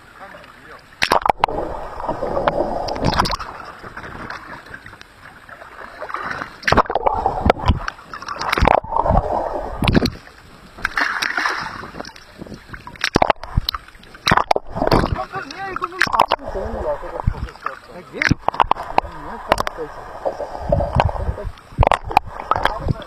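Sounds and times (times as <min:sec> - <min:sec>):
seawater sloshing and gurgling: 0:00.0 - 0:23.0
water splashes: 0:00.0 - 0:23.0.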